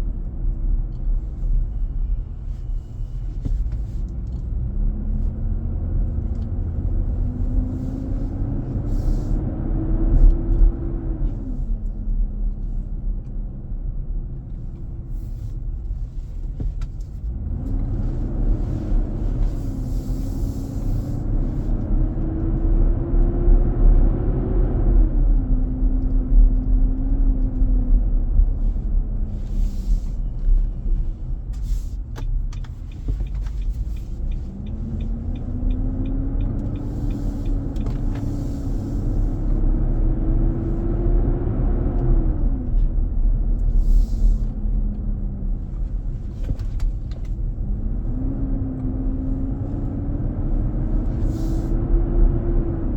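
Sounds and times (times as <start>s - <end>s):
vehicle cabin rumble: 0.0s - 52.9s.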